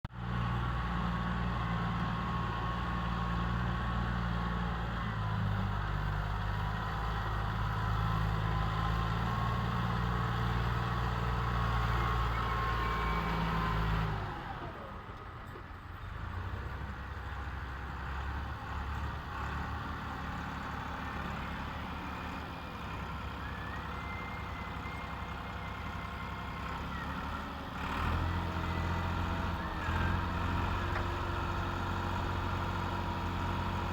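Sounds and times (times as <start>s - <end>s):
tractor engine running: 0.2s - 33.9s.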